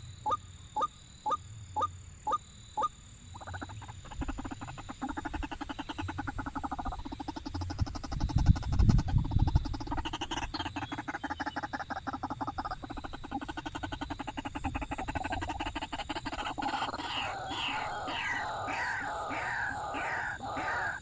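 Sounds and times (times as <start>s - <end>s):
frog-like animal calling in pulses: 0.0s - 21.0s.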